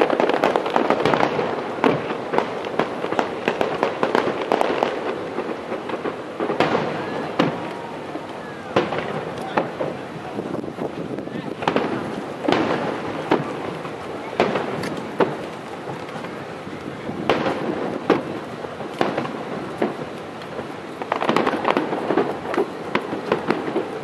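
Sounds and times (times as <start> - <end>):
firework shells bursting: 0.0 - 24.0
fireworks crackling: 0.0 - 24.0.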